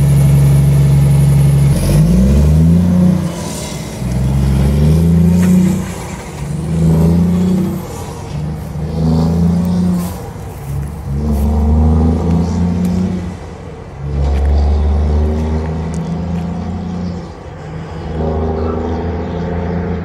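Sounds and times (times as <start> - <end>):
truck diesel engine accelerating: 0.0 - 20.0.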